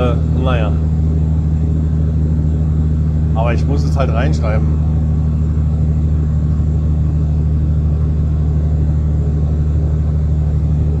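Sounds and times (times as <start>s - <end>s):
truck engine and tyres droning: 0.0s - 11.0s.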